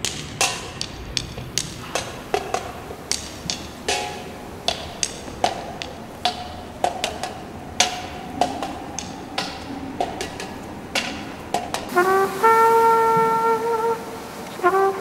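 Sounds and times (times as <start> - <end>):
drum strikes: 0.0 - 13.9.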